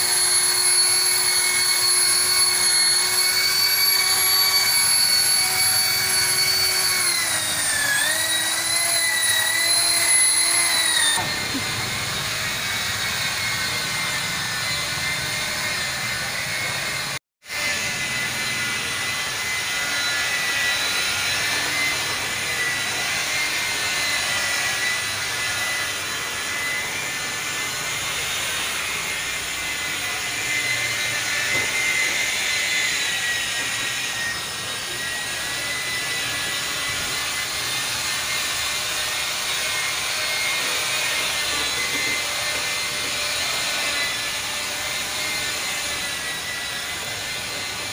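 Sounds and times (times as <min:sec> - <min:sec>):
car polisher motor whine: 0:00.0 - 0:47.9.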